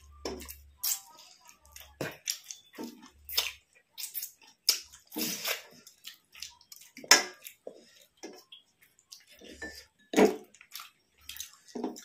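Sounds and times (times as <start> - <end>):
chewing and wet squishing: 0.0 - 12.0.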